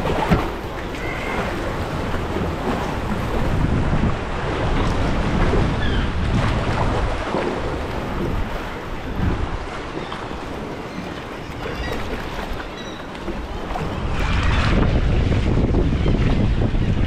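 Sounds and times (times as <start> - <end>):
kayak paddle strokes: 0.0 - 14.3
sea water sloshing and splashing: 0.0 - 16.6
wind buffeting microphone: 0.0 - 17.0.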